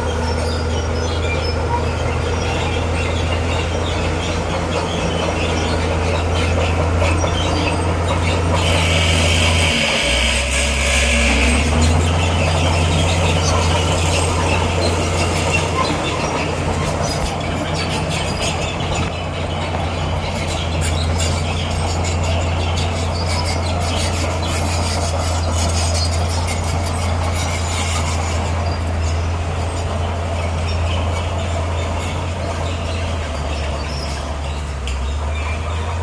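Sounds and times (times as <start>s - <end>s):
bulldozer diesel engine running: 0.0s - 36.0s
steel tracks clanking: 0.0s - 36.0s.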